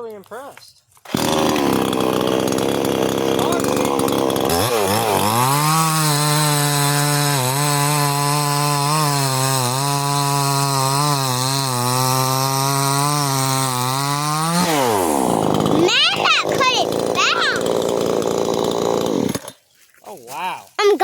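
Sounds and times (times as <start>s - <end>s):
chainsaw cutting through log: 1.0s - 19.6s.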